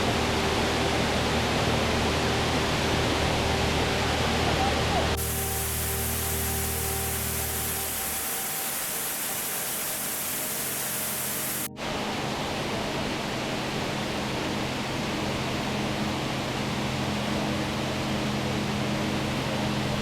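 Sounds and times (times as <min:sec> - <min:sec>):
low steady hum: 0:00.0 - 0:20.0
waterfall roaring: 0:00.0 - 0:20.0.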